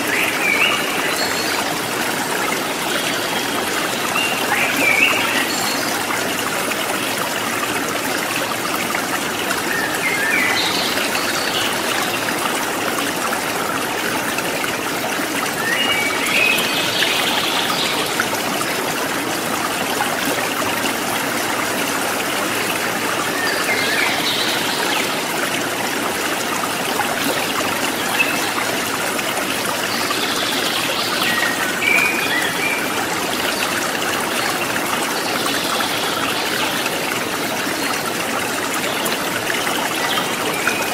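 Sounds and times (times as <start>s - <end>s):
trickling stream water: 0.0s - 40.9s.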